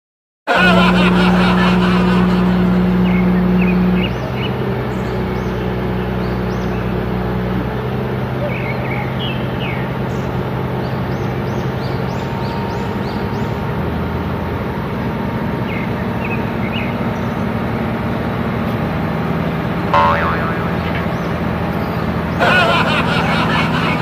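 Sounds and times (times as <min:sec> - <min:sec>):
diesel engine droning: 0:00.5 - 0:24.0.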